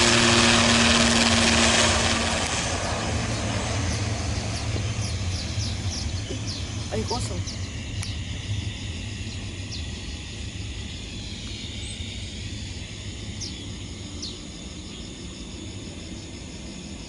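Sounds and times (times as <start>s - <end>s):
insects trilling: 0.0s - 17.0s
low even rumble: 1.5s - 16.0s.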